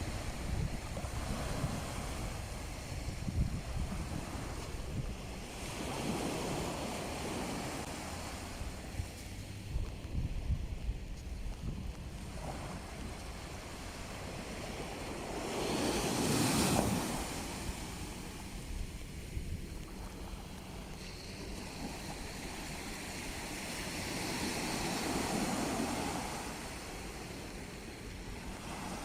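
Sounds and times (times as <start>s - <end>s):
sea waves crashing on shore: 0.0s - 9.8s, 11.6s - 29.0s
wind rumbling on microphone: 0.0s - 29.0s.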